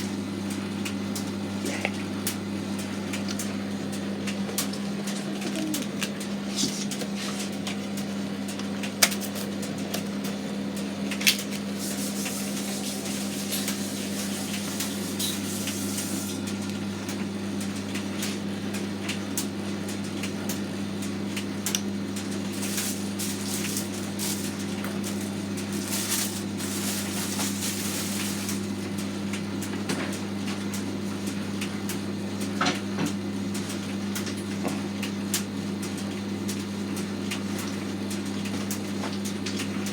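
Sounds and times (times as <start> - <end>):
tumble dryer motor hum: 0.0 - 39.9.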